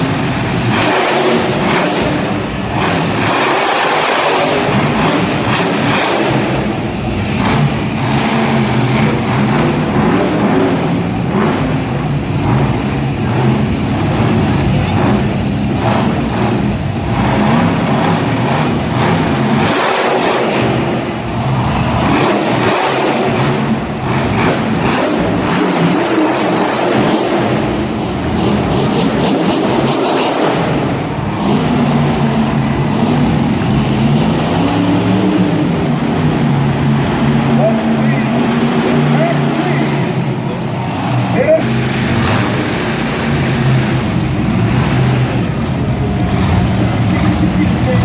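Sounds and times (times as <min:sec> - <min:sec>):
truck engine revving hard: 0:00.0 - 0:48.0.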